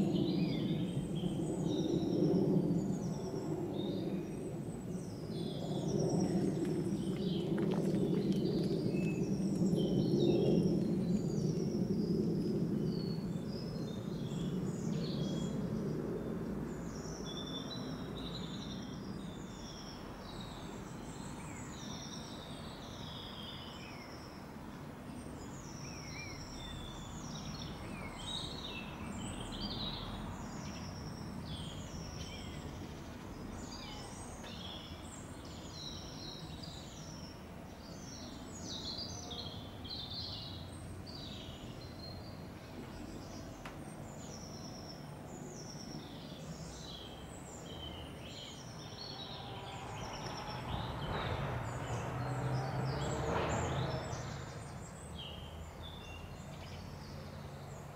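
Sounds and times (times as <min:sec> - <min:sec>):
small birds singing and chirping: 0:00.0 - 0:57.9.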